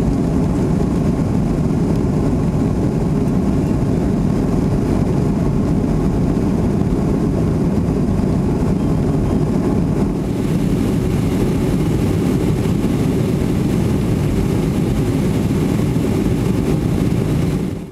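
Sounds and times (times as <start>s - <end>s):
jet engines idling in cabin: 0.0s - 17.9s.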